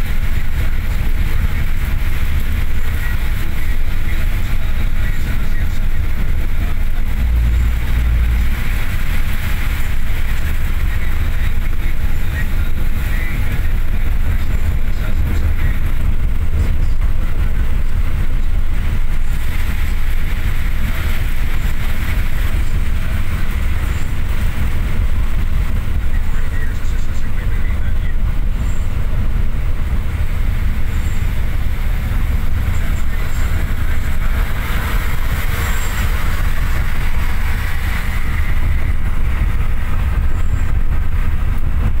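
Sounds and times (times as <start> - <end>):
bus engine rumble: 0.0 - 42.0
tyres on wet road: 0.0 - 42.0.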